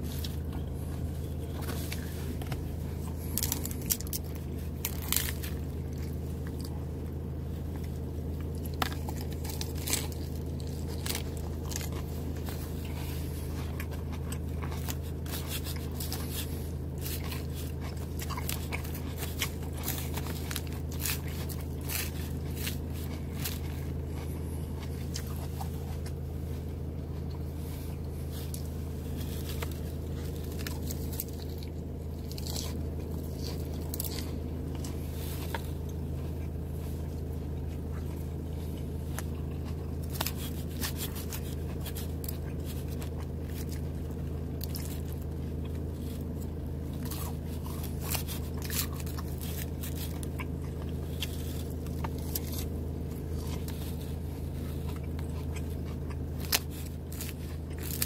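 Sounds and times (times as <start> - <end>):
chewing and crunching salad: 0.0 - 58.0
steady low hum: 0.0 - 58.0.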